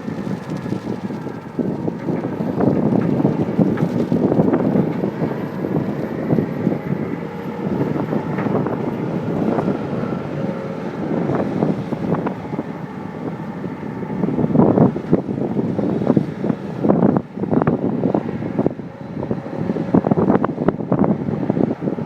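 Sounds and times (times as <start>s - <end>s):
diesel engine running: 0.0s - 22.0s
wind buffeting microphone: 0.0s - 22.0s.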